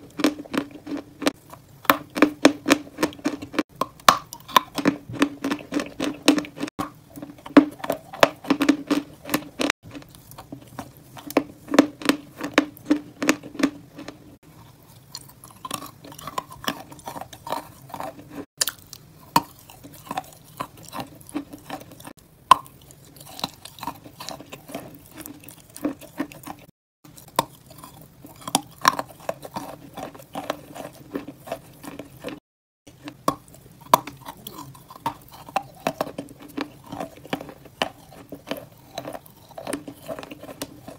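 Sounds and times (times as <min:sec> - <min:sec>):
crunchy chewing sounds: 0:00.0 - 0:40.9.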